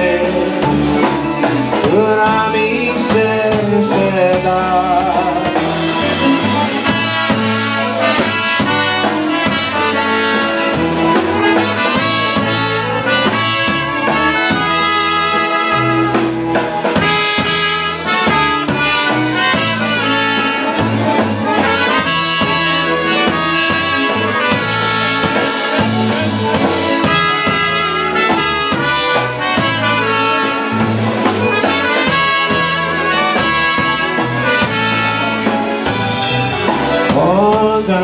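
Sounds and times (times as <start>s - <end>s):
bass line: 0.0s - 38.0s
drums: 0.0s - 38.0s
trumpets playing melody: 0.0s - 38.0s.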